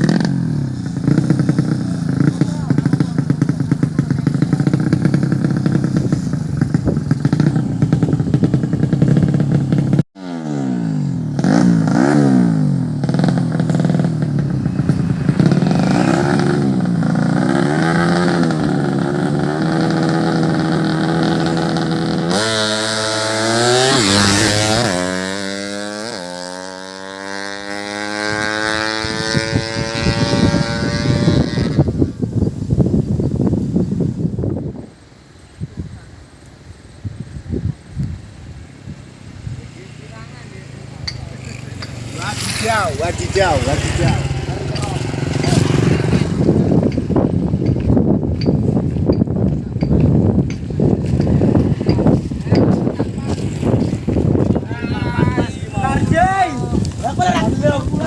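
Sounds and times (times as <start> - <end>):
motorcycle accelerating hard: 0.0 - 34.8, 38.2 - 58.0
motorcycle engines revving: 0.0 - 58.0.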